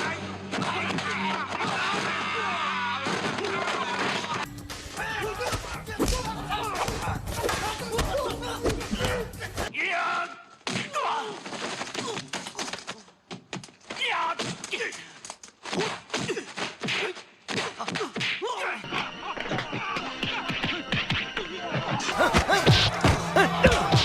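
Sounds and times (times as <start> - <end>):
fighters grunting and shouting: 0.0 - 11.4, 14.0 - 24.0.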